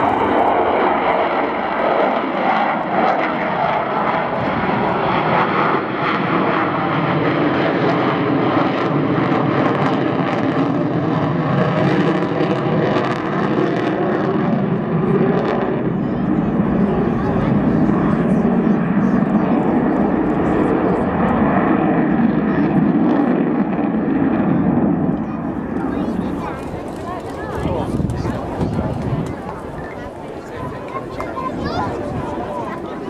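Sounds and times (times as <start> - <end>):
jet bomber flying overhead: 0.0 - 33.0.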